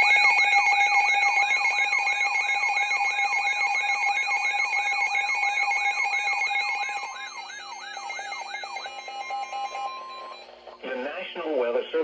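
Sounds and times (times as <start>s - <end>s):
sweeping siren alarm tone: 0.0s - 10.8s.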